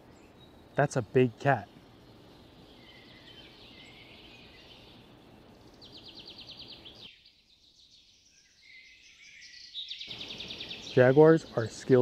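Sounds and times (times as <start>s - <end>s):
background hiss: 0.0s - 12.0s
bird chirps: 0.0s - 12.0s.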